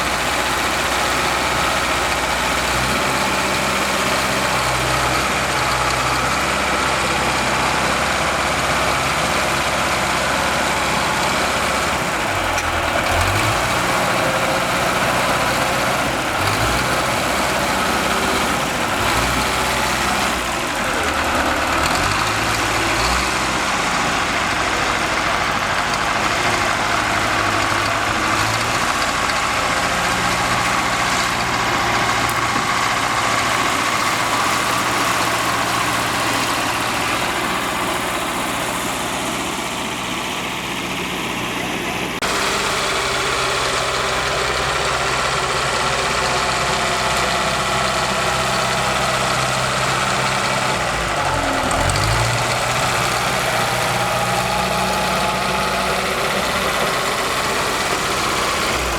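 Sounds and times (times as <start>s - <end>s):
bulldozer engine under load: 0.0s - 58.9s.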